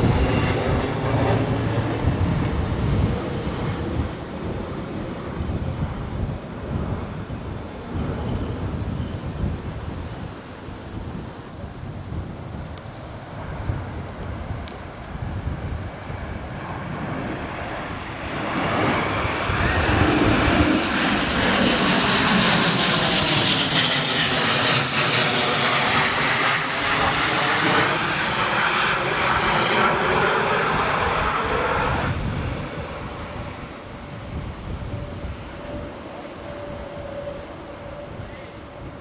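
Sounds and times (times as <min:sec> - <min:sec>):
jet engines flying over: 0:00.0 - 0:39.0.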